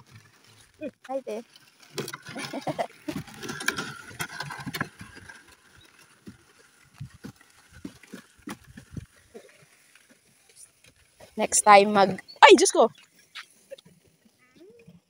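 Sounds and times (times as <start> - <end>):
wooden sled dragging and bumping: 0.0 - 15.0.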